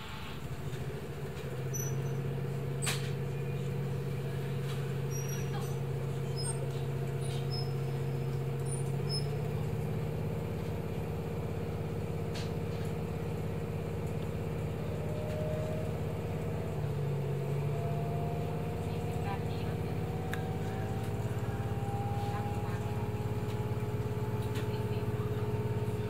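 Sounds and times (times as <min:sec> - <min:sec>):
train engine hum with whine: 0:00.0 - 0:26.0.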